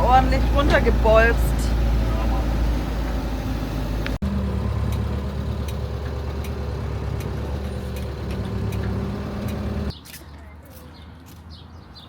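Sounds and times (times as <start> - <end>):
engine low hum: 0.0 - 9.9
road noise: 0.0 - 12.0.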